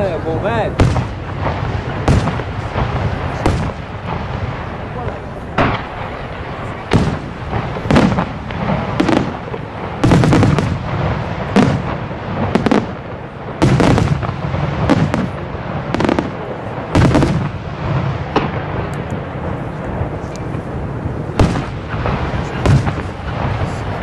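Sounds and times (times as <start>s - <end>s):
firework shells booming: 0.0s - 24.0s
low rolling rumble: 0.0s - 24.0s.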